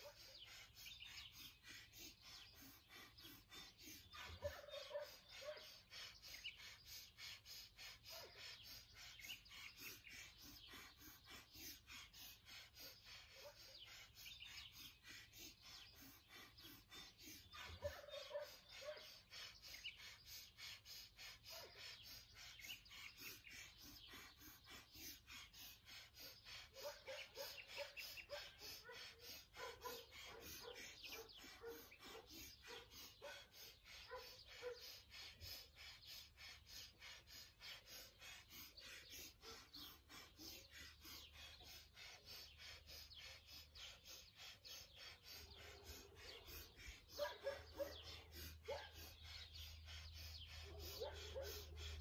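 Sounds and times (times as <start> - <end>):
birds chirping: 0.0 - 52.0
fast forceful nasal breaths: 0.0 - 52.0.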